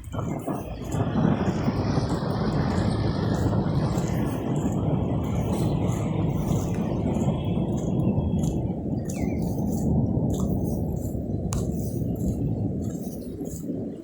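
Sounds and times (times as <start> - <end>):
traffic on wet road: 0.0 - 14.0.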